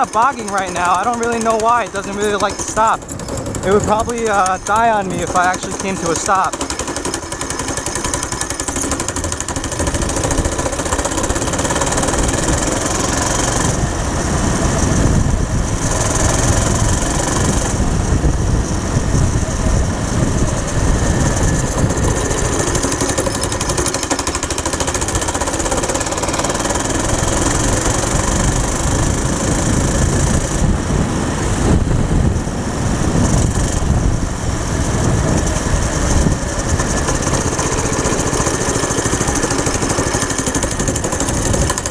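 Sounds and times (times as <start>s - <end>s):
go-kart engine running: 0.0s - 41.9s.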